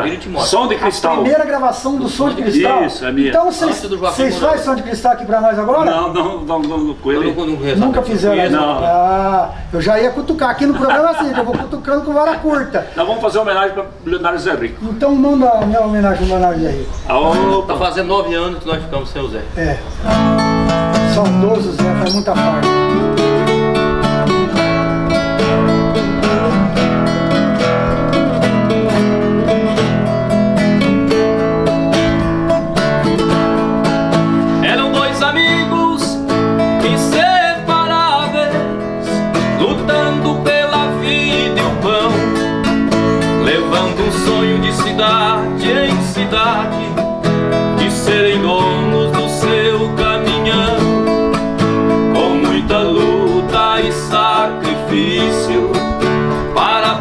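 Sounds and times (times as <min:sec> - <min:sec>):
classical guitars playing: 0:00.0 - 0:09.8, 0:17.1 - 0:18.7, 0:19.4 - 0:57.0.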